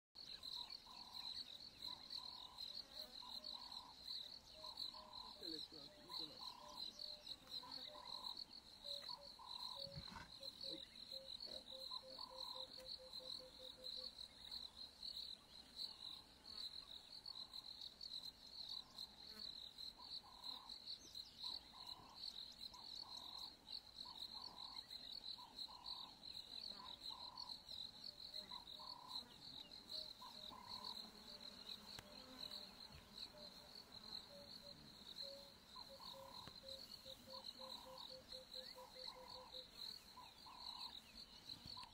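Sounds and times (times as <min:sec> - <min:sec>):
crickets trilling: 0:00.2 - 0:41.9
lower short insect call: 0:00.2 - 0:41.9.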